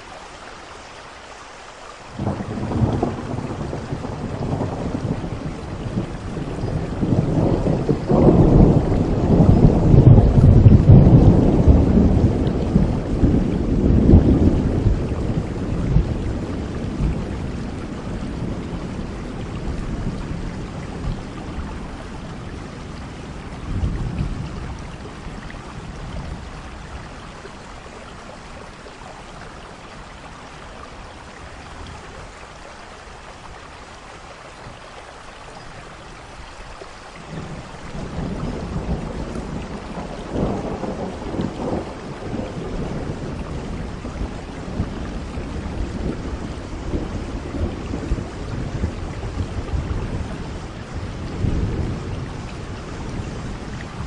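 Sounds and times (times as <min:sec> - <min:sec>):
steady rain hiss: 0:00.0 - 0:54.0
thunder rumbling: 0:02.2 - 0:30.3, 0:37.2 - 0:54.0.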